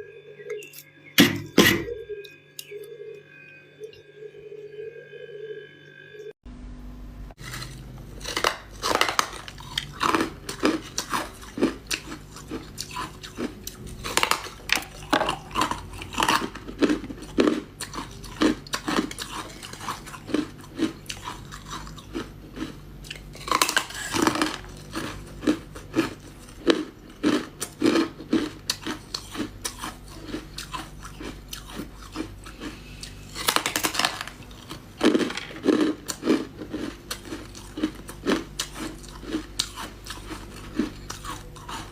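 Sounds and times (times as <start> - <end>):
ice being chewed: 7.4 - 41.9.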